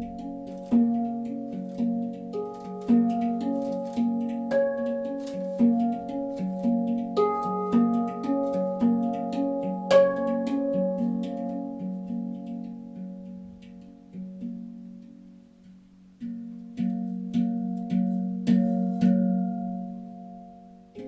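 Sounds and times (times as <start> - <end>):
handpan played with fingers: 0.0 - 21.0.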